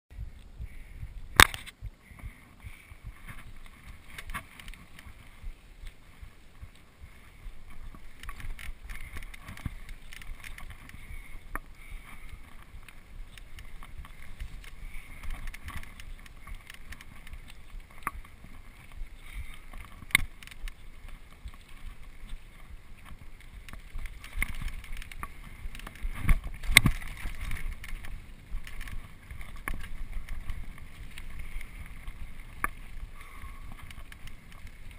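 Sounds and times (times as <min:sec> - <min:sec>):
bike rumbling over rough ground: 0:00.1 - 0:34.9.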